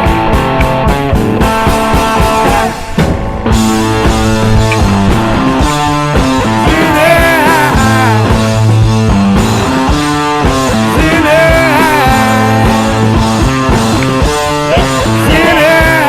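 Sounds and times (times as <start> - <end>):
distorted guitar: 0.0 - 16.0
steady drum beat: 0.0 - 16.0.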